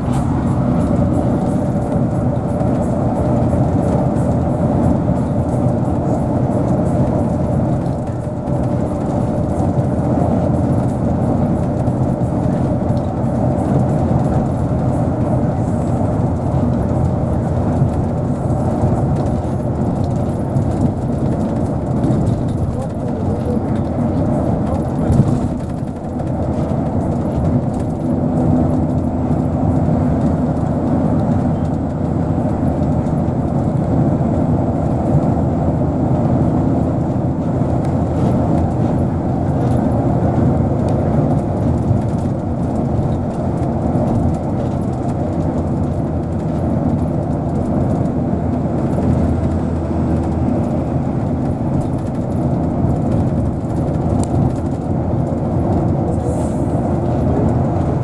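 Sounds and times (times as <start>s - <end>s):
car driving on highway: 0.0s - 58.0s.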